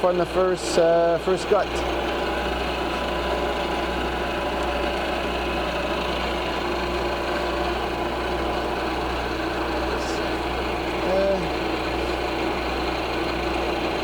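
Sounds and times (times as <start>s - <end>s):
milling machine running: 0.0s - 14.0s.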